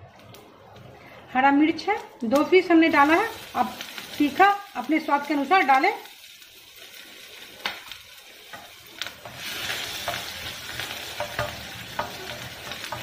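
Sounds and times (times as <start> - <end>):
seeds sizzling in oil: 2.0 - 13.0.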